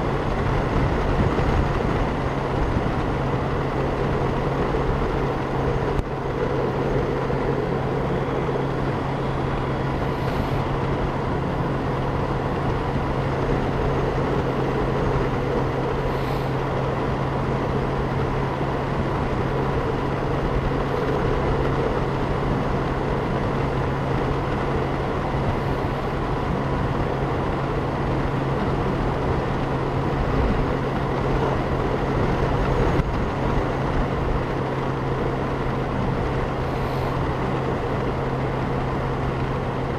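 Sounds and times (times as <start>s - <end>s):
motorcycle engine hum: 0.0s - 39.9s
road noise: 0.0s - 39.9s.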